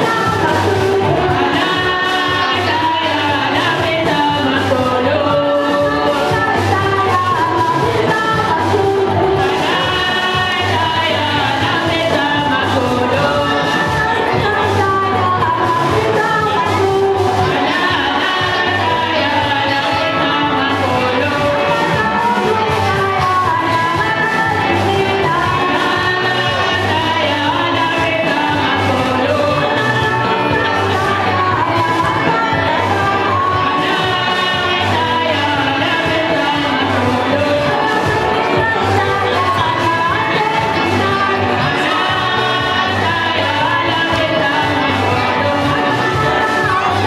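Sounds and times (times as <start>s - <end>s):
congregation singing gospel: 0.0s - 47.0s
steady bass line: 0.0s - 47.0s.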